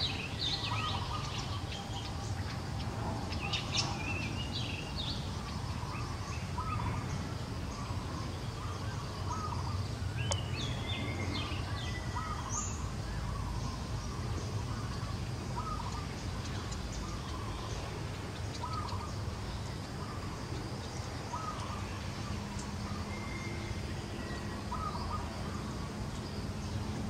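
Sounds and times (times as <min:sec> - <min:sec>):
birds chirping: 0:00.0 - 0:27.0
low outdoor rumble: 0:00.0 - 0:27.0.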